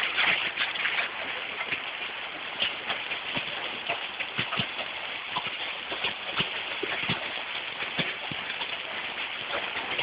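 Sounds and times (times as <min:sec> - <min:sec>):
hail falling with hiss: 0:00.0 - 0:10.0
hailstones knocking hard surfaces: 0:00.0 - 0:10.0.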